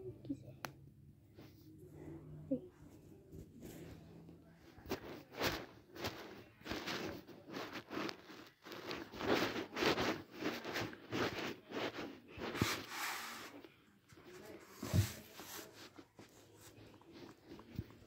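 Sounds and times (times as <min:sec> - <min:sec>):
rustling and soft bumps: 0:00.2 - 0:18.0.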